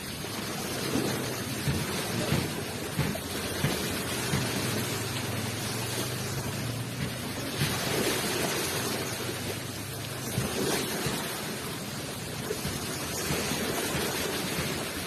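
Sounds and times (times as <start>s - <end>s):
ocean waves on shore: 0.0s - 15.0s.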